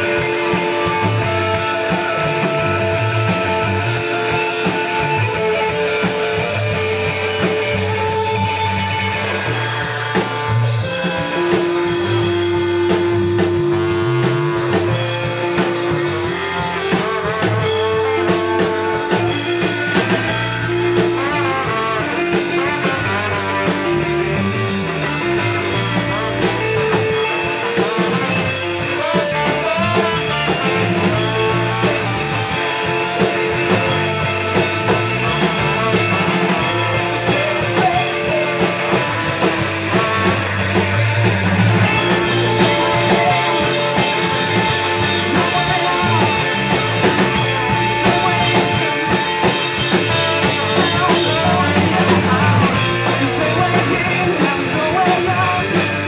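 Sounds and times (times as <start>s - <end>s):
live ska-punk band playing: 0.0s - 56.0s.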